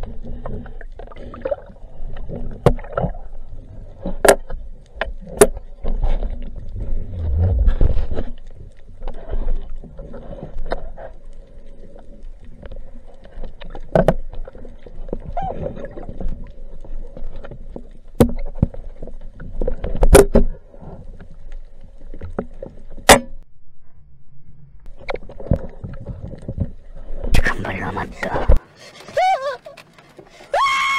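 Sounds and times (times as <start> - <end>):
low steady underwater hum: 0.0 - 30.9.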